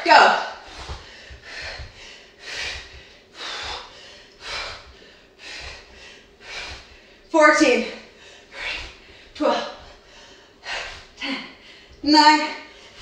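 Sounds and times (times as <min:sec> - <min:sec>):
woman breathing hard: 0:00.5 - 0:12.0, 0:12.6 - 0:13.0.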